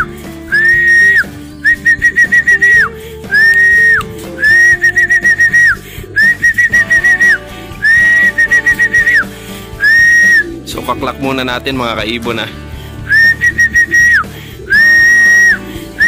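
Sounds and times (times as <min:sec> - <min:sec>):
high whistle calls: 0:00.0 - 0:10.7, 0:13.1 - 0:16.0
whistled short chirps: 0:00.5 - 0:10.6, 0:13.1 - 0:16.0.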